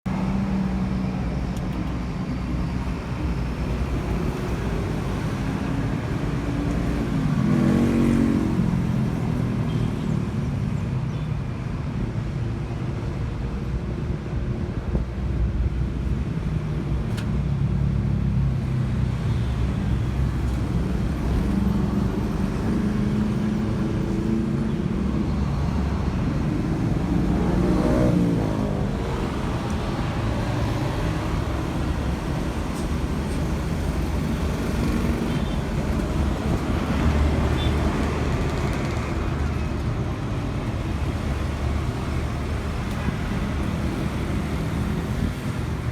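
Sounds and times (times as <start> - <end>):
road traffic rumble: 0.1 - 45.9.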